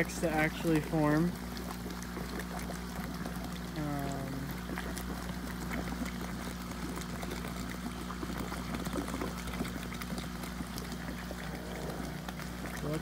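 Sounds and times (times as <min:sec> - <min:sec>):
air pump humming: 0:00.0 - 0:13.0
water splashing and bubbling: 0:00.0 - 0:13.0.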